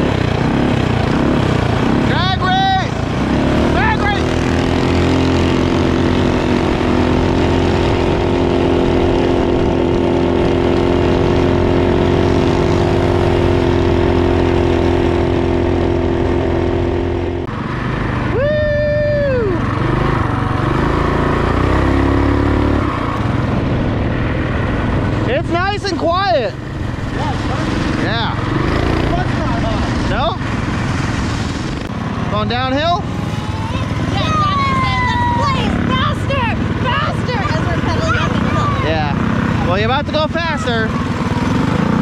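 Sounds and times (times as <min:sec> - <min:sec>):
small motorbike engine running: 0:00.0 - 0:42.0.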